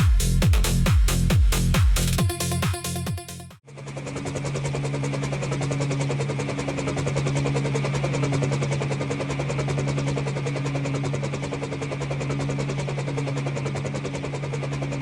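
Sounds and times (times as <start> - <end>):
helicopter rotor chop: 0.0 - 15.0
helicopter engine drone: 2.2 - 15.0.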